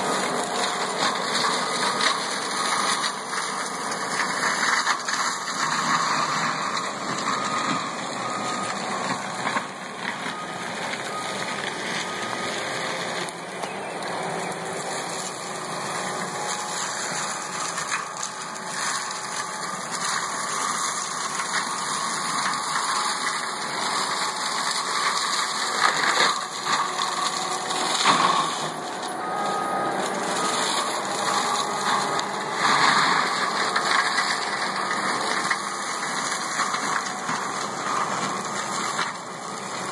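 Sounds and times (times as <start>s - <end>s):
loader engine under load: 0.0s - 39.9s
mulcher shredding brush: 0.0s - 39.9s.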